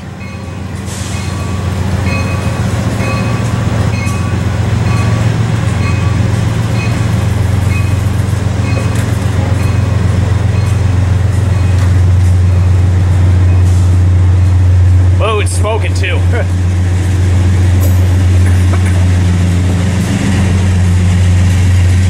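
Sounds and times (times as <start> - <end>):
diesel locomotive drone: 0.0 - 22.0
train cars rolling past: 0.0 - 22.0.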